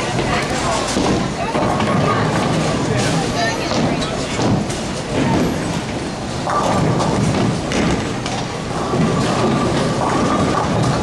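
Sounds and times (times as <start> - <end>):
bowling balls rolling: 0.0 - 11.0
bowling pins clattering: 0.0 - 11.0.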